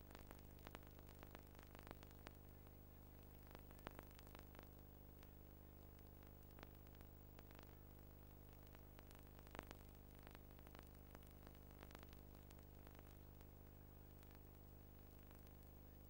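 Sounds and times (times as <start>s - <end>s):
faint clicks: 0.0s - 16.0s
faint low hum: 0.0s - 16.0s.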